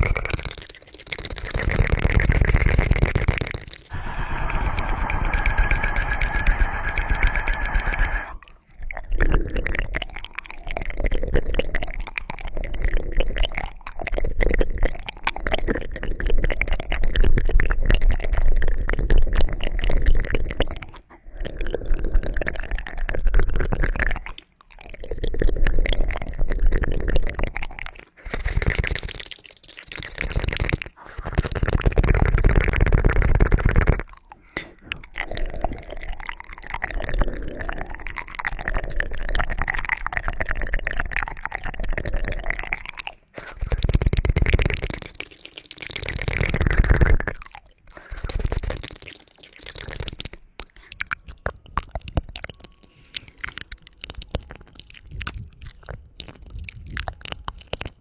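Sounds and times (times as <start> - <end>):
wet crackling and squishing: 0.0 - 58.0.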